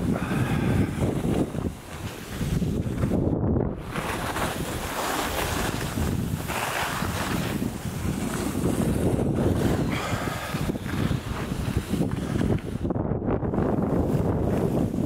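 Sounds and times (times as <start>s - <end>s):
skis scraping on snow: 0.0s - 15.0s
wind on microphone: 0.0s - 15.0s.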